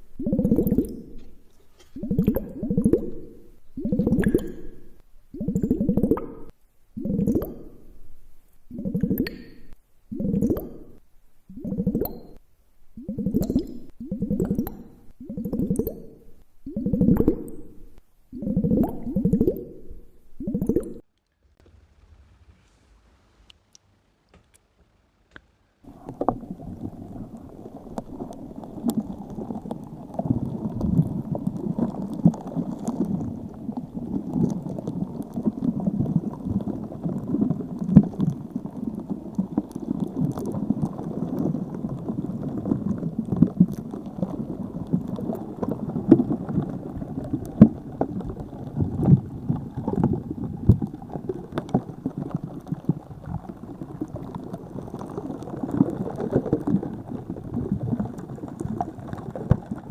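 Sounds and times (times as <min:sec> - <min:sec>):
muffled water bubbling and gurgling: 0:00.0 - 0:22.0, 0:25.8 - 0:59.9.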